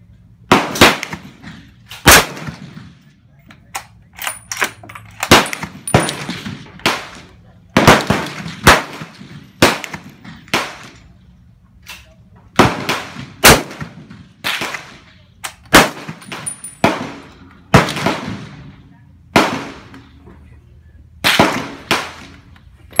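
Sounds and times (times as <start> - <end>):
rifle gunshots echoing: 0.5 - 3.0, 4.2 - 11.2, 12.5 - 20.2, 21.2 - 23.0.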